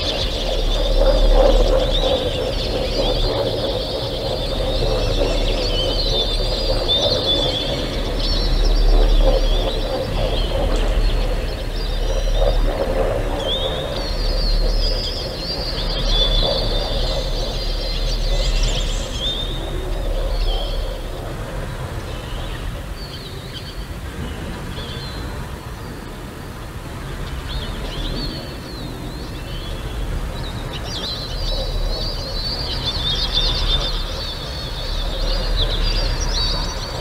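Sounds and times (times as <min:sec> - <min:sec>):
birds chirping and calling: 0:00.0 - 0:25.4, 0:27.3 - 0:37.0.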